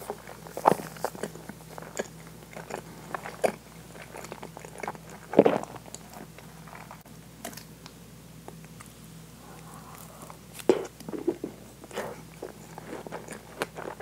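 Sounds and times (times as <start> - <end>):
wet chewing: 0.0 - 7.6, 8.6 - 14.0.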